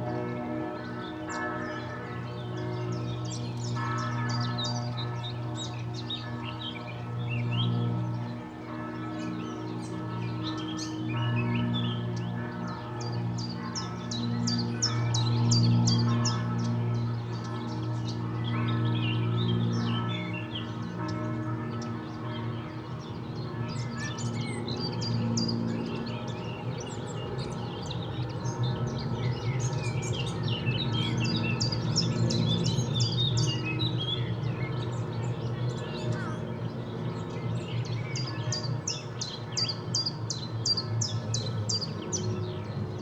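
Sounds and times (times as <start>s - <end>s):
distant church bells ringing: 0.0s - 43.0s
songbirds chirping: 0.0s - 43.0s.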